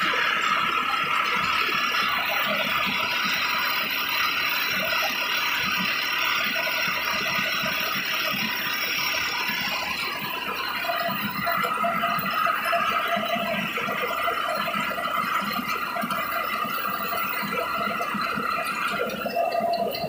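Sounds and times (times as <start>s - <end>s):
rice mill running: 0.0s - 20.0s.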